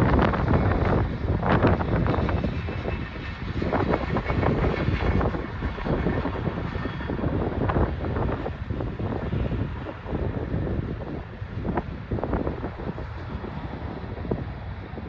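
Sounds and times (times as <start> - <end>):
freight train rumbling past: 0.0 - 15.0
wind buffeting microphone: 0.0 - 15.0.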